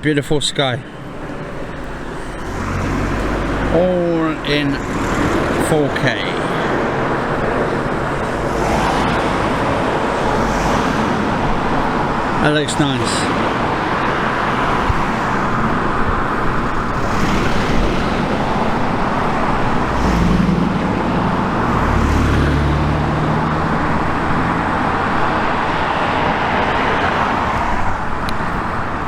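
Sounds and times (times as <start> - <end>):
road traffic noise: 0.0 - 29.0
vehicle engine passing: 0.8 - 29.0.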